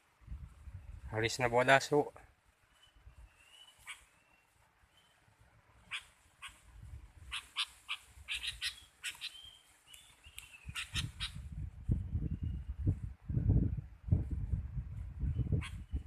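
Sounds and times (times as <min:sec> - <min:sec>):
small songbirds chirping: 0:00.3 - 0:01.8, 0:02.4 - 0:13.1, 0:15.2 - 0:16.0.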